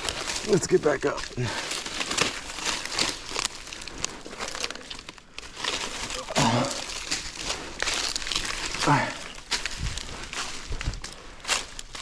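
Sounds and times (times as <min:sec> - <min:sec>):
dry leaves crunching underfoot: 0:00.0 - 0:12.0.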